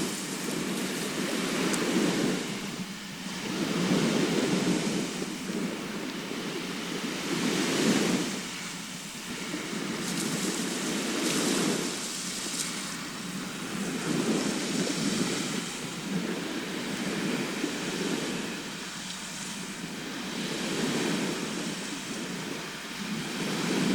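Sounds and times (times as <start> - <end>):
sea waves breaking on shore: 0.0 - 23.9.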